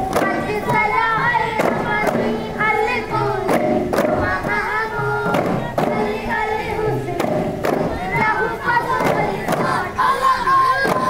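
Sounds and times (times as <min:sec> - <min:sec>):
frame drum strikes: 0:00.0 - 0:11.0
group singing in unison: 0:00.0 - 0:11.0.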